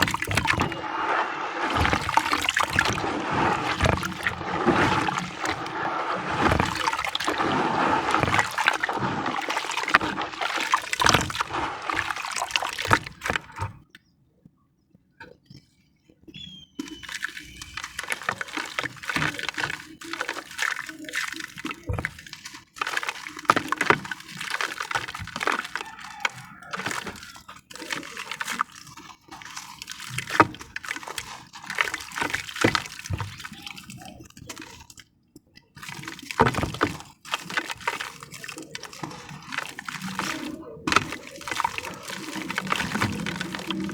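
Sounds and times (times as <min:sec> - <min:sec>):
wet crackling and sloshing: 0:00.0 - 0:14.0, 0:16.3 - 0:43.9.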